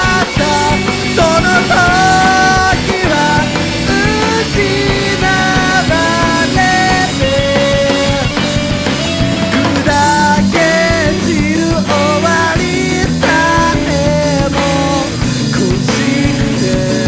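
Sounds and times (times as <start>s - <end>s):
melodic lead guitar bending notes: 0.0s - 17.0s
rock band playing: 0.0s - 17.0s.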